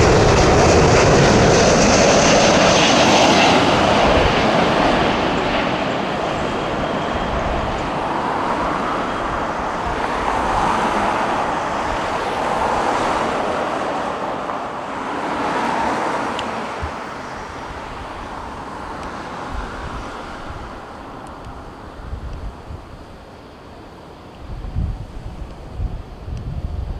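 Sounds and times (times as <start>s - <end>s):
jet airliner engine rumble: 0.0s - 26.9s.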